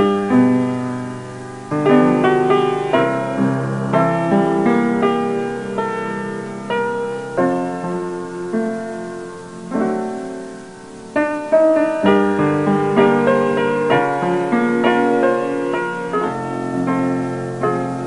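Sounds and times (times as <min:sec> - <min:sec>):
piano chords ringing: 0:00.0 - 0:18.0.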